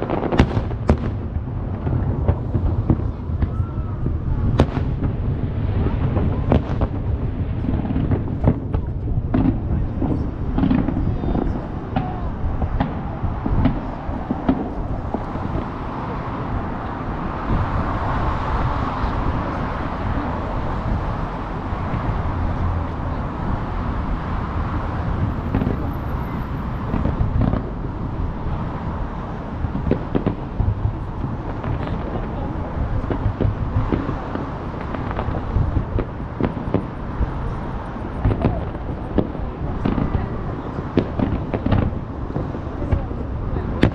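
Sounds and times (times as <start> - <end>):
firework bangs and crackles: 0.0 - 43.9
fireworks low booming rumble: 0.0 - 43.9.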